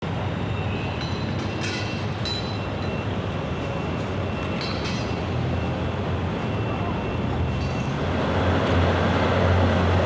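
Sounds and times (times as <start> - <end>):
street traffic: 0.0 - 10.0
heavy construction machinery rumble: 0.1 - 10.0.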